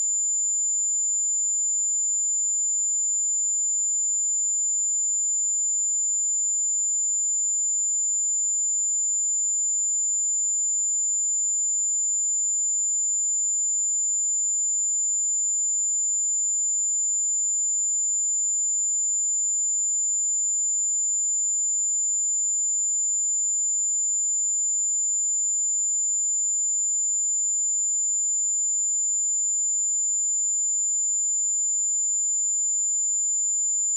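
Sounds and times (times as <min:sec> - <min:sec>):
high-pitched sine-wave test tone: 0:00.0 - 0:33.9.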